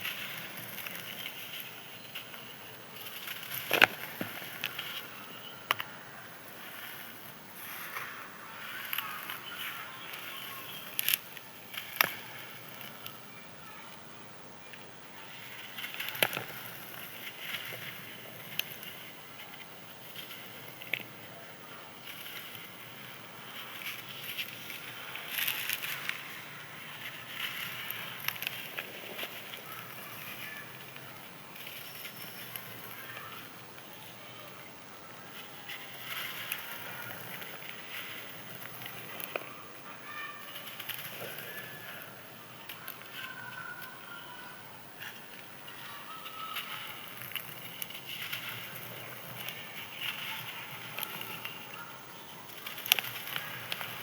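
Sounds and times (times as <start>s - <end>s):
sand-cement crumbling and crunching: 0.0s - 14.0s, 14.7s - 54.0s.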